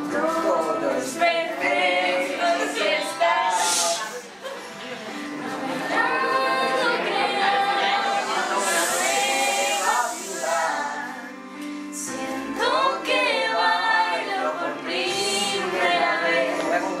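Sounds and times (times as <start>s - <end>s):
young voices singing a cappella: 0.0s - 4.4s, 5.3s - 17.0s.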